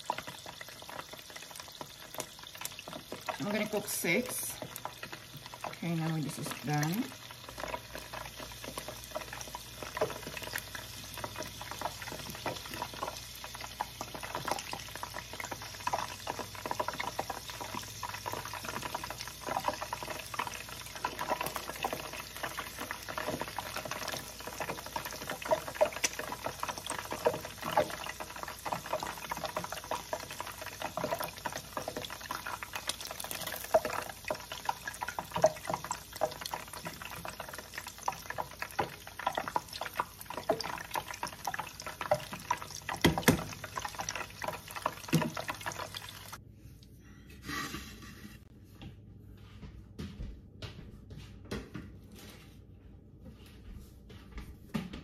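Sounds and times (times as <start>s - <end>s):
food deep-frying in oil: 0.0s - 46.4s.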